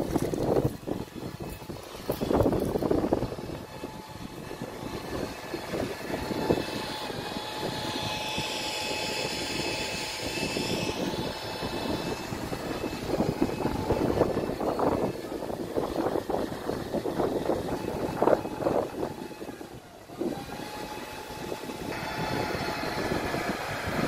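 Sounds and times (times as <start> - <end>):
steady droning noise: 0.0 - 24.0
wind buffeting microphone: 0.0 - 24.0.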